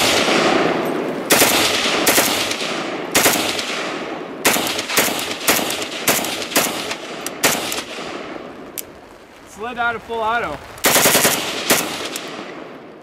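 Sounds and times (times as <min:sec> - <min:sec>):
rifle shots: 0:00.0 - 0:13.0.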